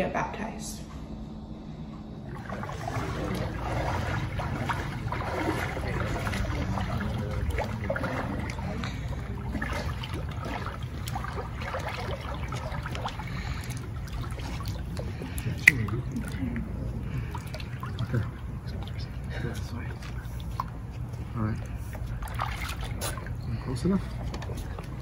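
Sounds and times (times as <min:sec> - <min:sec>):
steady low rumble: 0:00.0 - 0:25.0
pool water sloshing: 0:02.1 - 0:25.0.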